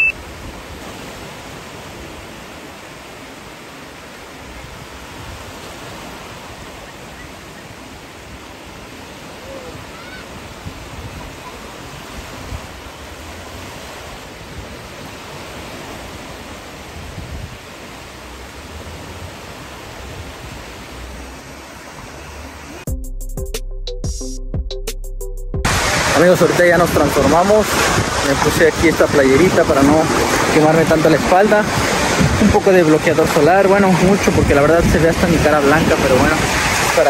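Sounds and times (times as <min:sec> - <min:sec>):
small waves breaking: 0:00.0 - 0:22.9, 0:25.7 - 0:37.0.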